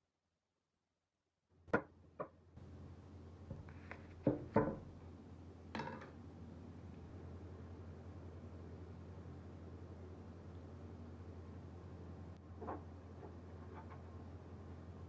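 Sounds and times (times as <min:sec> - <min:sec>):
low steady hum: 0:01.9 - 0:15.0.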